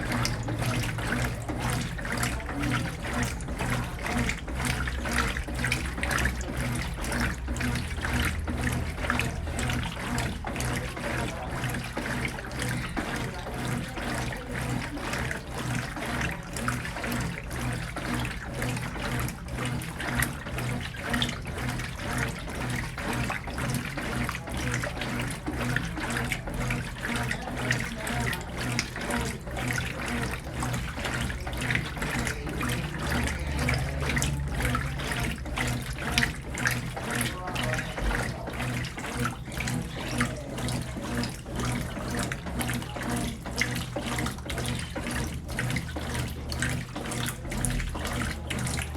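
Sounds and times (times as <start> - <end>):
low motor hum: 0.0 - 48.9
water churning in washing machine: 0.0 - 48.9.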